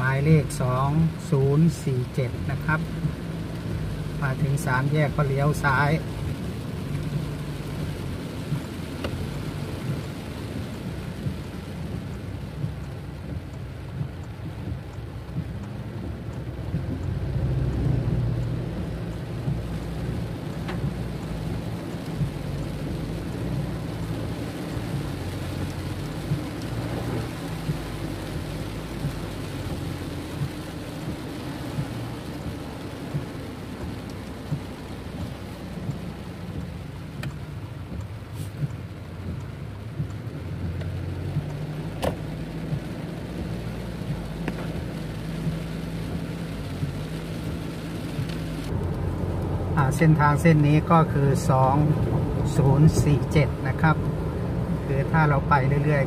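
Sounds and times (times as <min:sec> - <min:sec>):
rain on car windscreen: 0:00.0 - 0:56.0
road and tyre rumble: 0:00.0 - 0:56.0.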